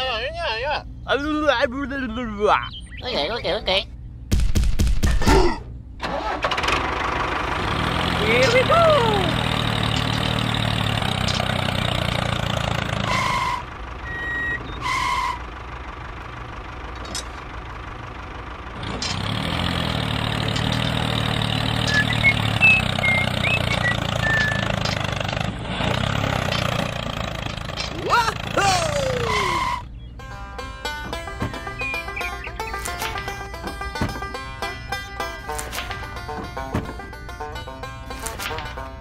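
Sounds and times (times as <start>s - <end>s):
tractor engine running: 5.8s - 39.0s.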